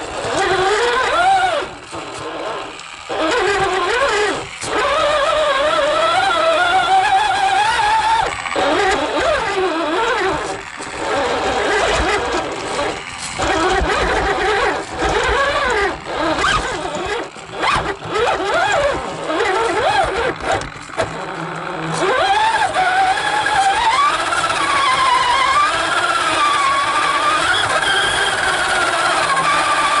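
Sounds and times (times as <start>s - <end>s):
radio-controlled car motor whine: 0.0s - 30.0s.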